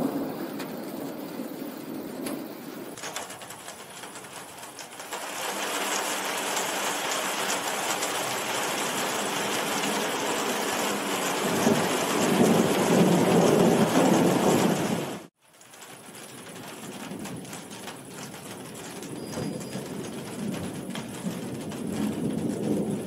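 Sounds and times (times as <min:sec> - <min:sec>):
thunder rumbling: 0:00.0 - 0:15.3, 0:15.9 - 0:23.0
heavy rain pouring: 0:00.0 - 0:23.0.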